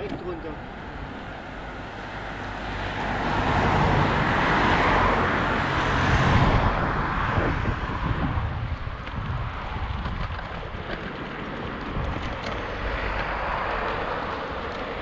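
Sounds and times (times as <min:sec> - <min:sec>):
cars passing on paved road: 0:00.0 - 0:15.0.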